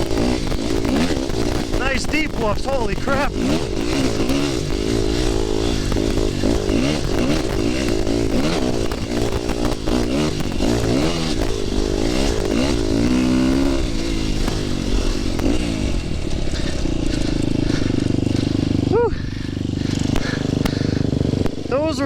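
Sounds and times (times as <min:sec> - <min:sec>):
bike clattering over bumps: 0:00.0 - 0:22.0
dirt bike engine revving: 0:00.0 - 0:22.0.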